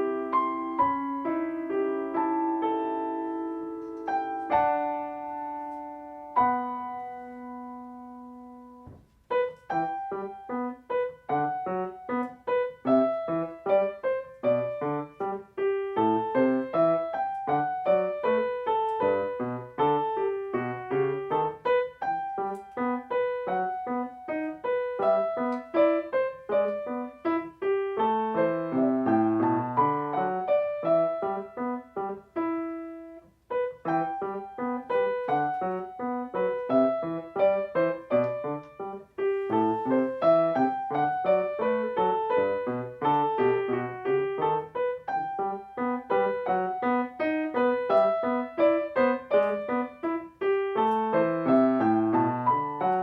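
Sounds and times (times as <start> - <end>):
solo piano playing: 0.0 - 53.0.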